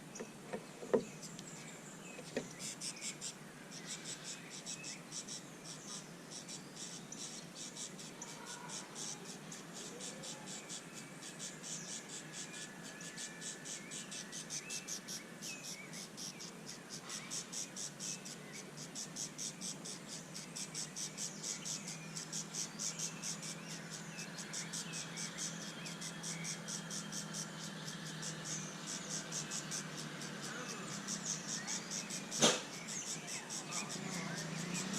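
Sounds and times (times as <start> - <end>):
faint bird chirps: 0.0 - 34.9.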